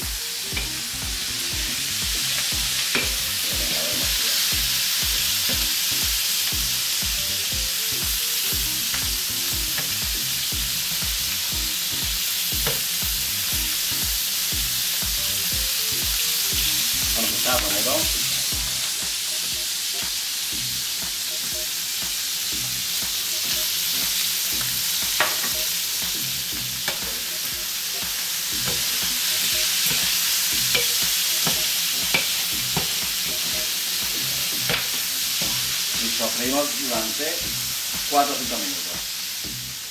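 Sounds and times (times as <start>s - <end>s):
meat and beans sizzling in oil: 0.0s - 39.9s.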